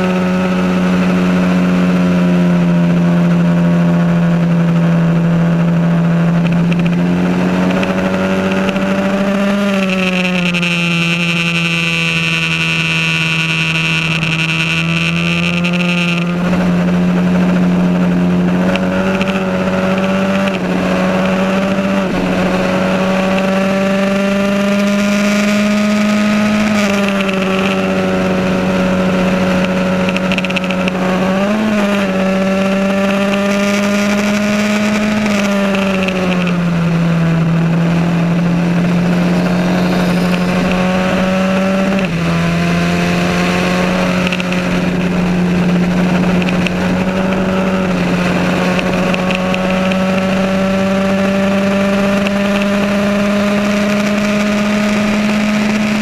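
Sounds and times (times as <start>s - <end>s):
racing car engine at high revs: 0.0s - 56.0s
steady high whine: 0.0s - 56.0s.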